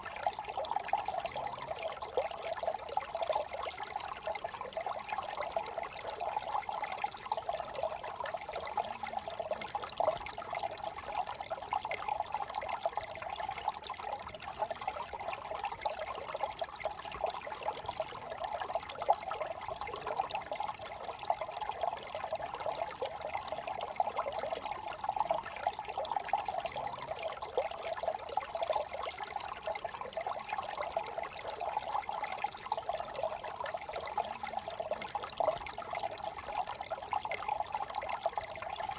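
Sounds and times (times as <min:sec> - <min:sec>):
brook water trickling: 0:00.0 - 0:38.9.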